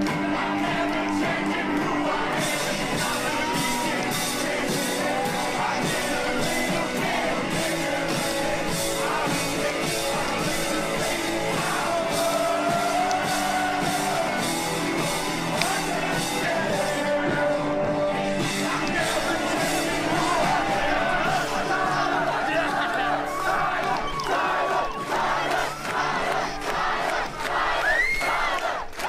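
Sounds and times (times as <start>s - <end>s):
rock music: 0.0s - 26.4s
steady drum beat: 0.0s - 27.3s.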